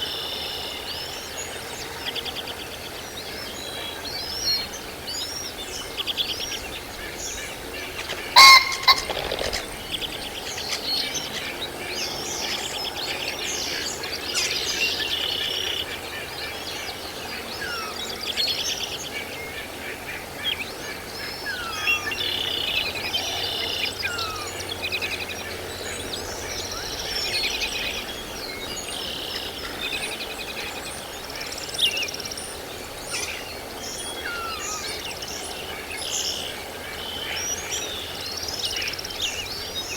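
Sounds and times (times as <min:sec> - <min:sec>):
birds chirping and singing: 0:04.2 - 0:39.9.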